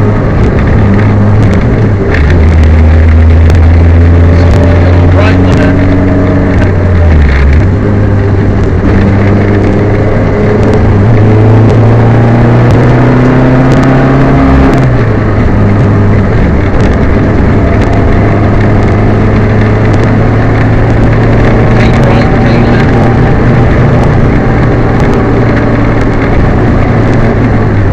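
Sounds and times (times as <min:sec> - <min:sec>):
car engine revving hard: 0:00.0 - 0:27.9.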